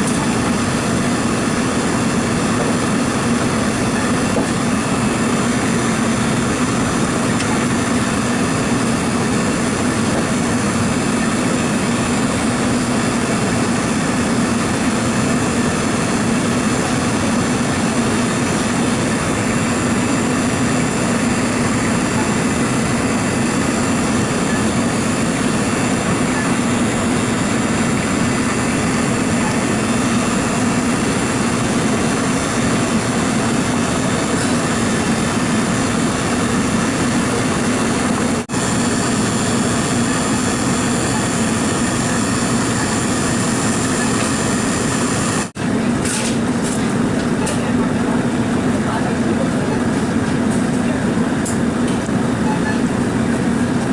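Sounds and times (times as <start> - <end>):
machine humming: 0.0 - 53.9.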